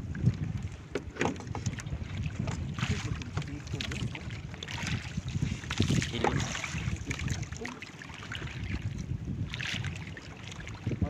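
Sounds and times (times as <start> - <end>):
water rushing along boat hull: 0.0 - 11.0
wind buffeting microphone: 0.0 - 11.0.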